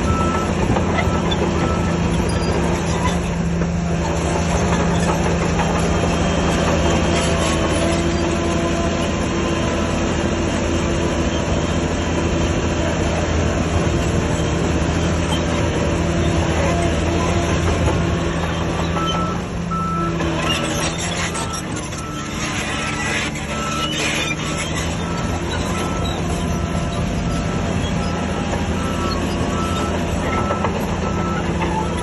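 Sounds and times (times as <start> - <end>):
bulldozer diesel engine humming: 0.0 - 32.0
bulldozer tracks clattering: 0.0 - 32.0.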